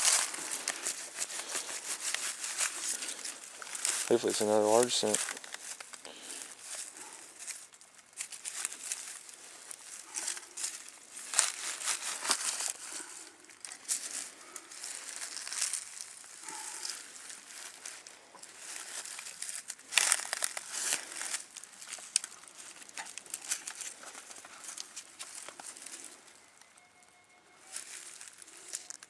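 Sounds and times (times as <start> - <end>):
digging in soil: 0.0 - 26.9, 27.5 - 29.0.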